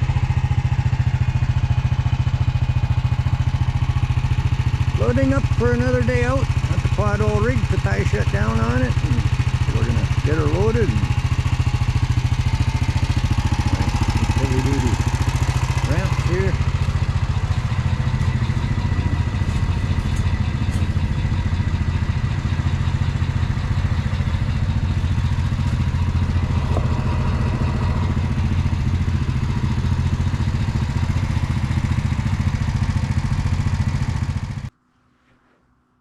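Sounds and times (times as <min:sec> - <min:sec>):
quad engine running: 0:00.0 - 0:34.7.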